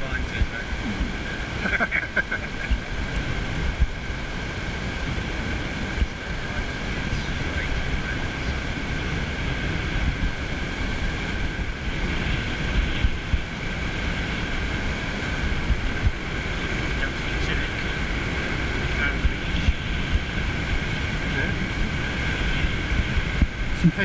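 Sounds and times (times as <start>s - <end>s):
small waves washing onto beach: 0.0s - 24.0s
wind buffeting microphone: 0.0s - 24.0s.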